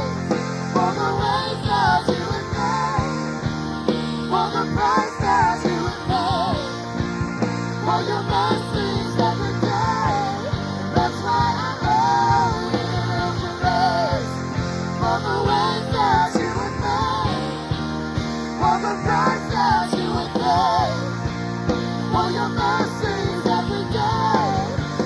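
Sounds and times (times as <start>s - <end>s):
live worship band music: 0.0s - 25.0s.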